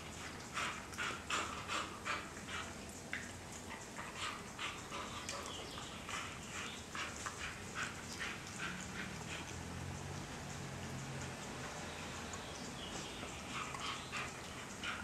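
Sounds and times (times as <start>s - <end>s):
dog licking wetly: 0.0s - 15.0s.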